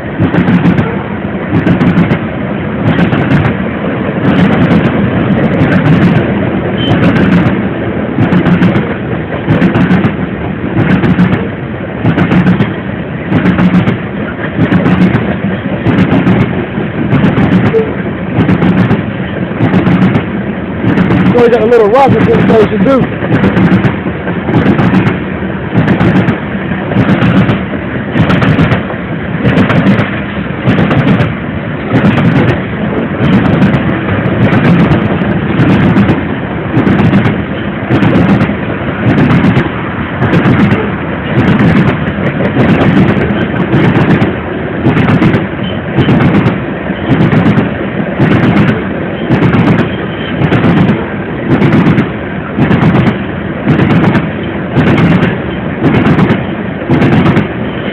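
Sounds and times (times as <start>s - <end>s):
freight train wheels clanking: 0.0s - 57.9s.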